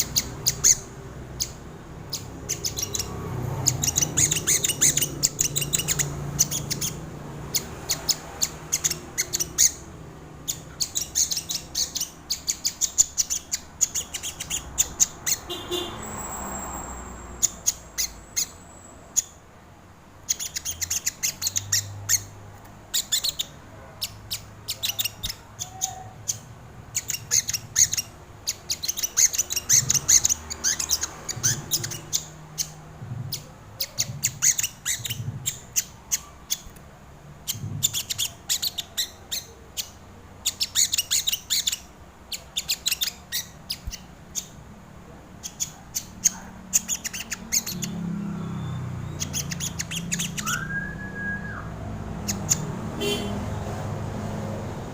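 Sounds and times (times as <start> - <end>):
bird chipping calls: 0.0 - 19.4, 20.2 - 36.8, 37.4 - 44.6, 45.4 - 53.6
low traffic rumble: 0.0 - 54.9.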